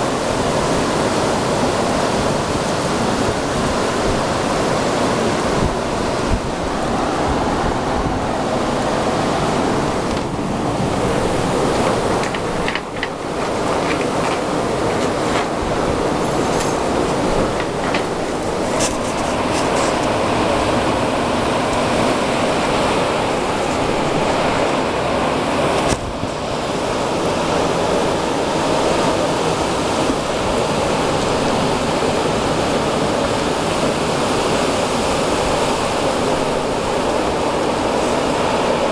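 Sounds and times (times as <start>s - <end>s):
loud rushing blizzard wind: 0.0s - 38.9s.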